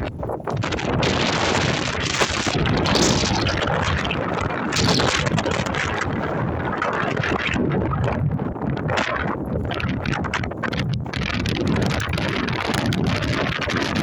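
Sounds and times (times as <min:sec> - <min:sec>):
wind gusts on microphone: 0:00.0 - 0:14.0.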